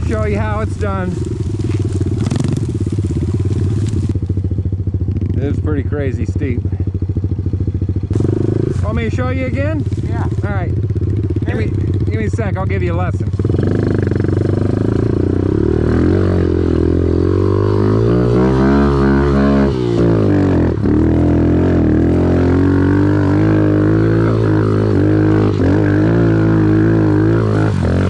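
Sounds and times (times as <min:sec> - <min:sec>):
off-road vehicle engine revving: 0:00.0 - 0:04.2, 0:05.1 - 0:28.0.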